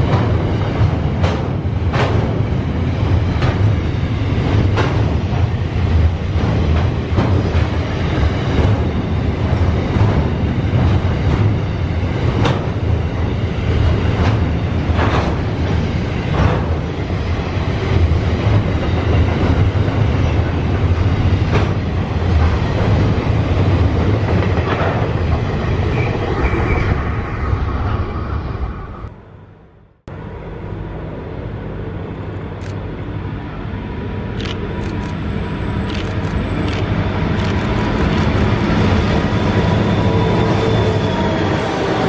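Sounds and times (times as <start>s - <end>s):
train wheels rumbling on rail: 0.0s - 29.4s, 30.0s - 42.0s.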